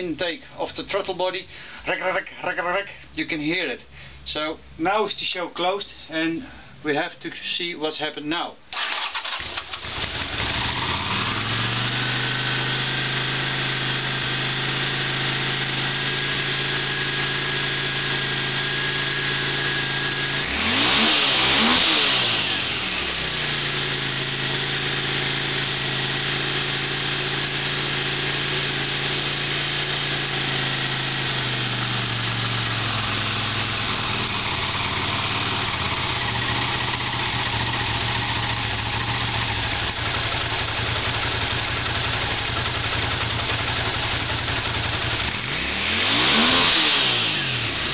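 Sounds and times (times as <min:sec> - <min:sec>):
motorcycle engine idling and revving: 0:08.8 - 0:47.9.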